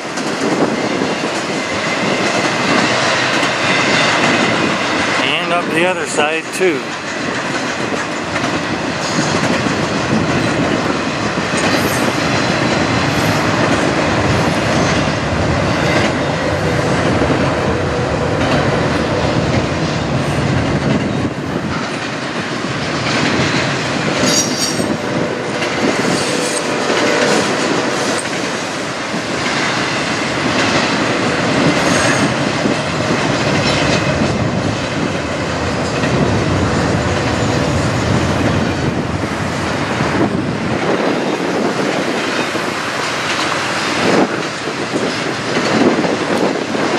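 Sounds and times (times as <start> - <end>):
wheels clacking over rail joints: 0.0 - 5.8, 6.5 - 46.9
train wheels rumbling on rails: 0.0 - 46.9.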